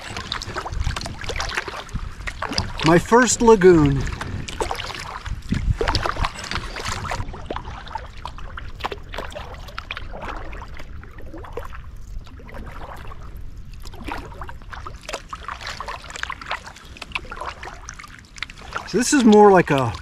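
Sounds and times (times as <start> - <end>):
kayak paddle dipping in water: 0.0 - 20.0
water dripping off paddle: 0.0 - 20.0.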